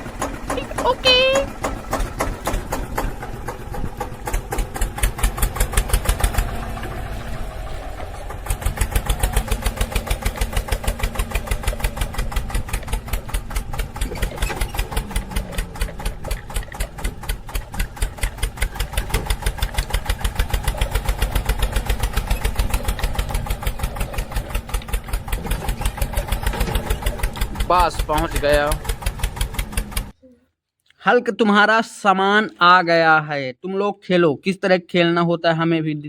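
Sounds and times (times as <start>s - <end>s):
small engine chugging: 0.0s - 30.2s.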